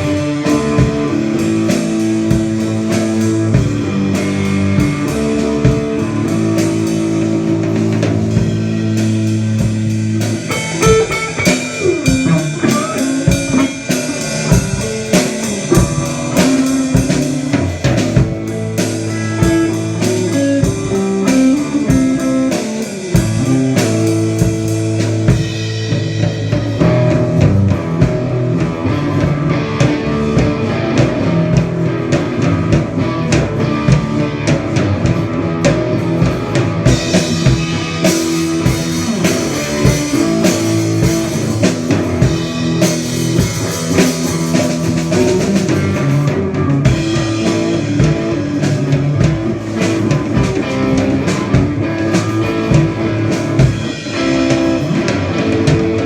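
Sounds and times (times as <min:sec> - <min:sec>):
blues-rock band playing: 0:00.0 - 0:56.0.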